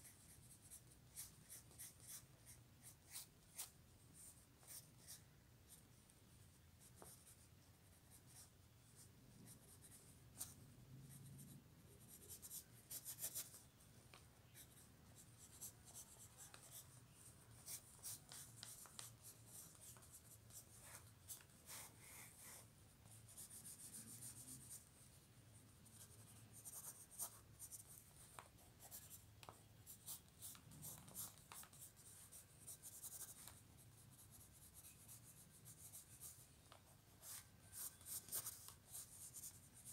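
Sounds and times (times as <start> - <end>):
pencil scratching on paper: 0.0 - 5.2, 6.8 - 13.6, 14.6 - 25.1, 25.8 - 36.4, 37.2 - 39.9.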